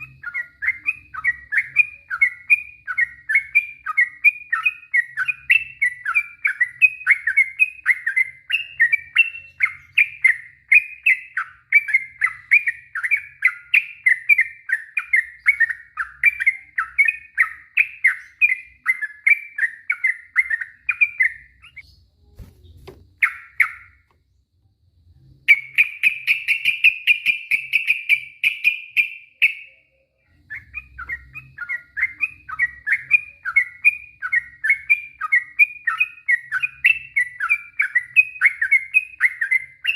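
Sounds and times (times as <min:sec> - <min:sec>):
bulbul singing repeated phrases: 0:00.0 - 0:24.2, 0:25.4 - 0:39.9.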